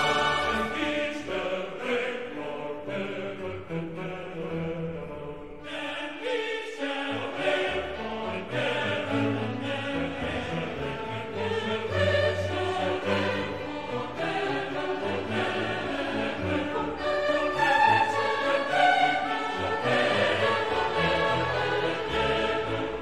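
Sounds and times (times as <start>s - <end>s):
choir singing: 0.0s - 23.0s
orchestral accompaniment: 0.0s - 23.0s.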